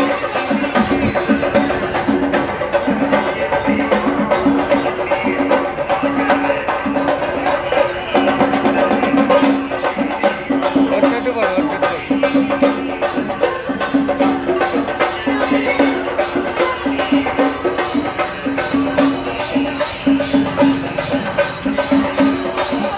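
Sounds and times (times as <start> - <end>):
fast busy percussion: 0.0 - 22.9.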